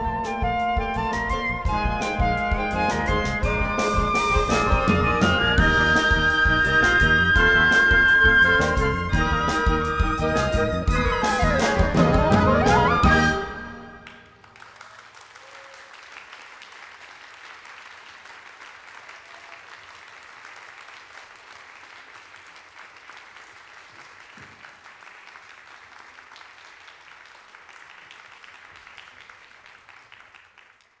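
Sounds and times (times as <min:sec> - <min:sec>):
audience applauding: 0:01.0 - 0:31.0.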